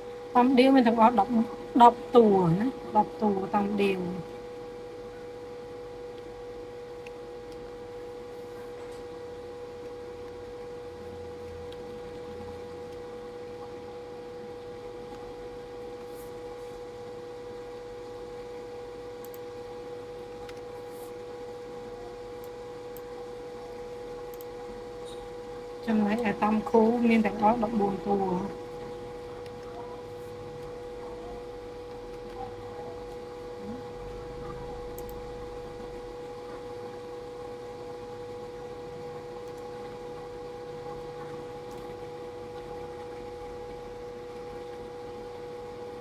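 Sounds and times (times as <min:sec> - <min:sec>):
high-pitched hum: 0:00.0 - 0:46.0.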